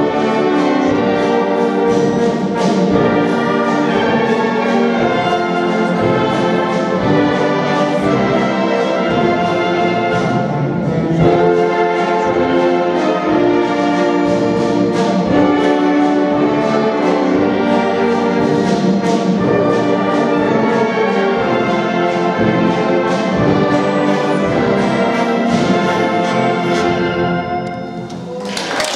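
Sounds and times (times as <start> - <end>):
wind band playing: 0.0 - 28.9.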